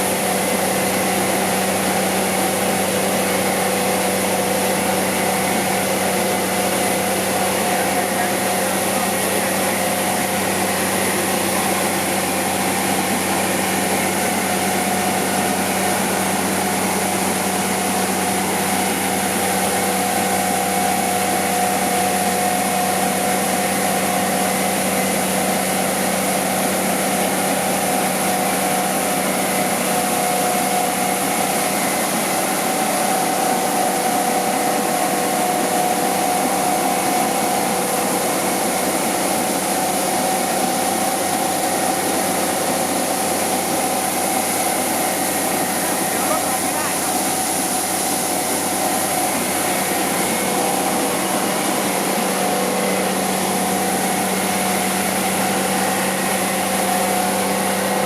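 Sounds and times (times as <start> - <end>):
motor humming with whine: 0.0 - 58.0.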